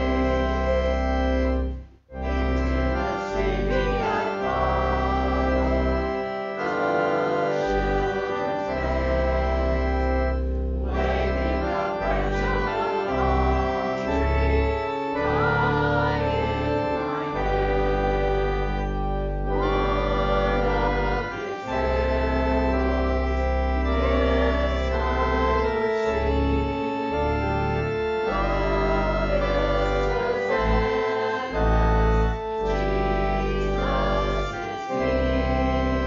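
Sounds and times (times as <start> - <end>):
organ playing hymn chords: 0.0 - 36.0
group of voices singing: 2.6 - 9.7, 10.9 - 19.0, 19.6 - 27.6, 28.2 - 35.6.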